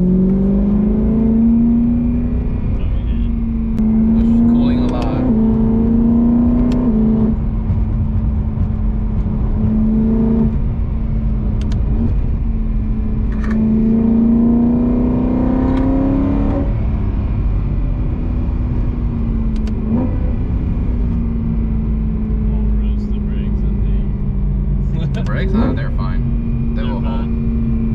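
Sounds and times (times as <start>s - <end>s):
car engine from inside cabin: 0.0s - 27.9s.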